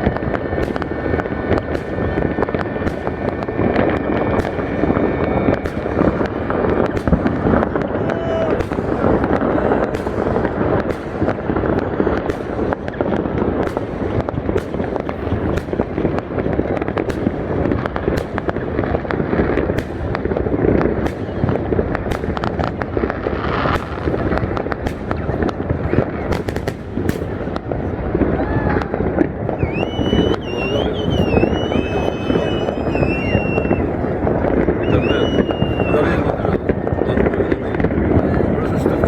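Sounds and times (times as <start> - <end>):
crowd voices: 0.0 - 39.0
fireworks bangs and crackles: 0.0 - 39.0.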